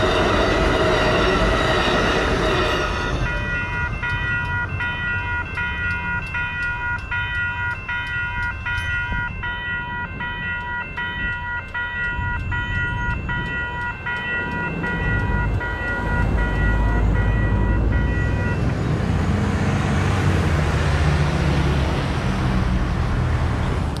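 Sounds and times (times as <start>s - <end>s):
railroad crossing bell ringing: 0.0s - 21.8s
cars driving across tracks: 0.0s - 24.0s.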